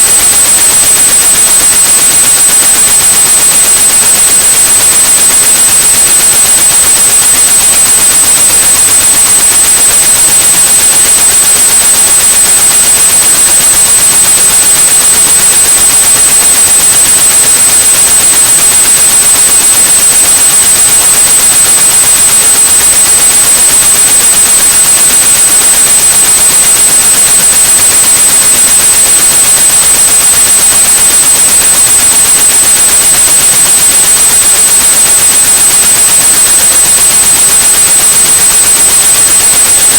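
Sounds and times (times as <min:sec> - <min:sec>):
high-pitched steady tone: 0:00.0 - 0:38.0.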